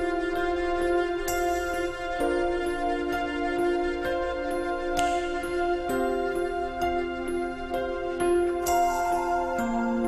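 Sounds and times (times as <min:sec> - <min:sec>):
soft instrumental music: 0:00.0 - 0:10.0.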